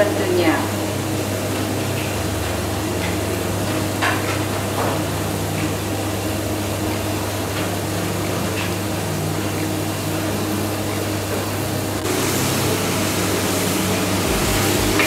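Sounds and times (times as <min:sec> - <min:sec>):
gas burner hiss: 0:00.0 - 0:15.0
low hum: 0:00.0 - 0:15.0.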